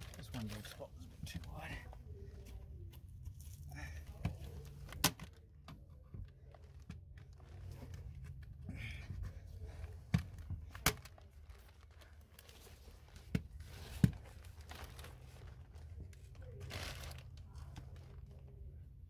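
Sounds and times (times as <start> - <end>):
insulation rustling and crinkling: 0.0 - 19.0.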